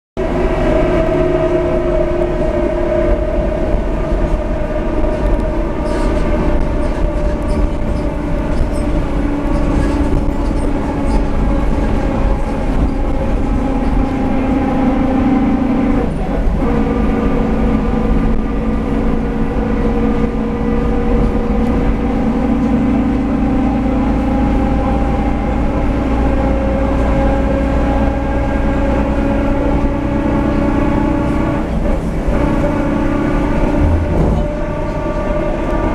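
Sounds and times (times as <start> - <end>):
bus differential gear whine: 0.2 - 35.9
low drivetrain running: 0.2 - 35.9.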